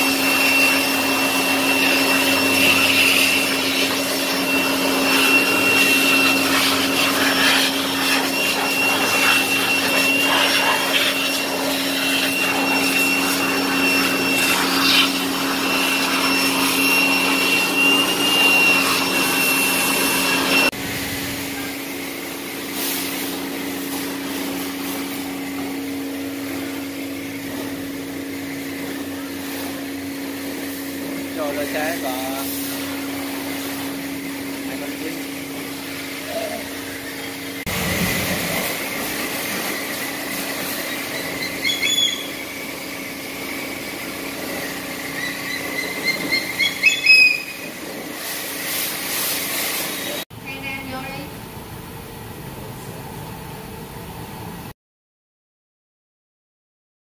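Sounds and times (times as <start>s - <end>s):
car wash machine whining: 0.0s - 54.7s.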